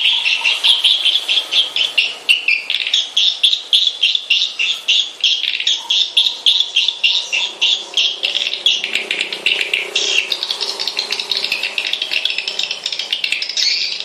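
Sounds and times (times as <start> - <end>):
swiftlets chirping: 0.0 - 14.0.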